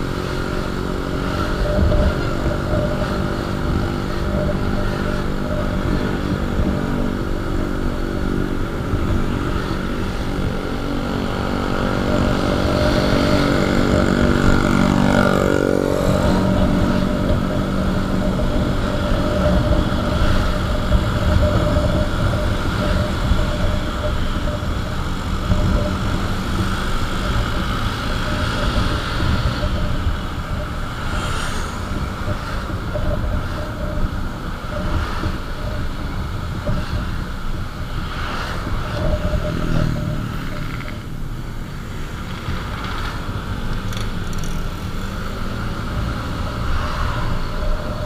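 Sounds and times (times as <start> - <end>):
motorcycle engine hum: 0.0 - 48.0
vehicles passing: 0.0 - 48.0
wind and road noise: 0.0 - 48.0.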